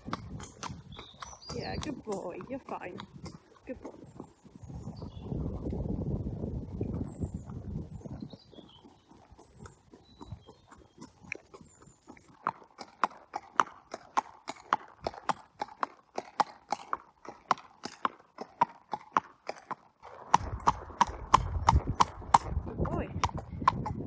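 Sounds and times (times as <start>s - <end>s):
hooves clip-clopping on road: 0.0s - 24.0s.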